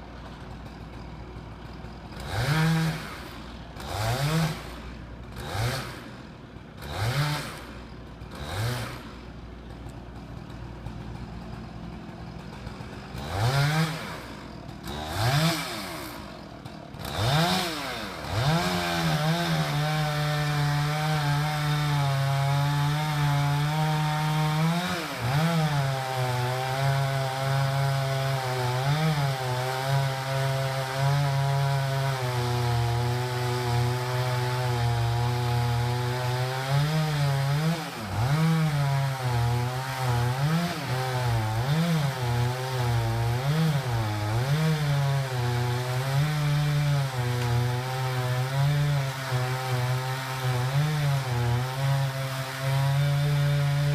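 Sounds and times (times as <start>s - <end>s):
chainsaw cutting through trunk: 0.0s - 53.9s.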